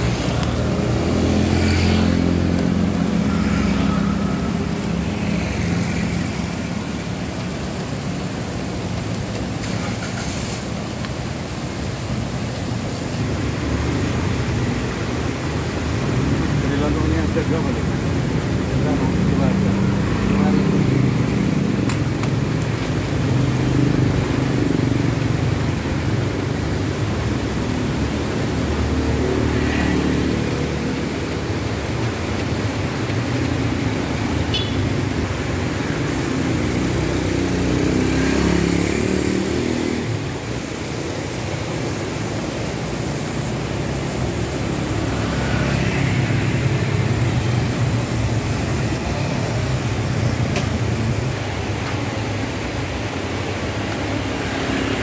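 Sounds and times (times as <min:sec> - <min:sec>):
motorcycles and cars passing: 0:00.0 - 0:55.0
road traffic rumble: 0:00.0 - 0:55.0.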